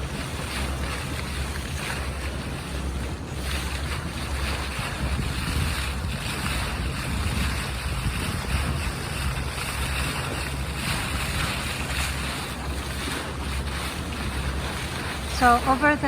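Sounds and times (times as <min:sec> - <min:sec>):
boat engine rumble: 0:00.0 - 0:16.0
water rushing along hull: 0:00.0 - 0:16.0
wind buffeting microphone: 0:00.0 - 0:16.0.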